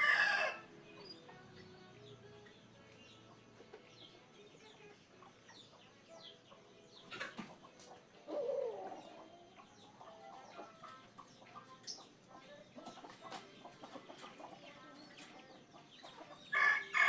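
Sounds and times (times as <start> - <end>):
birds chirping: 0.0 - 17.0
chickens: 0.0 - 17.0.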